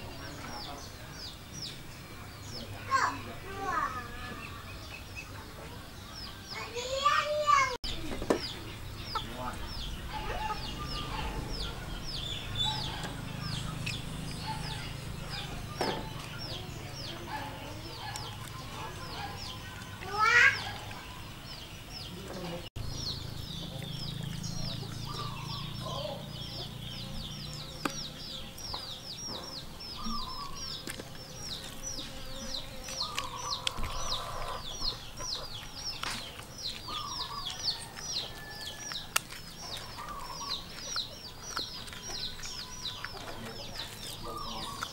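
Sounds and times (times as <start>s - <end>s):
chickens clucking: 0.0s - 44.9s
chicks peeping: 0.0s - 44.9s.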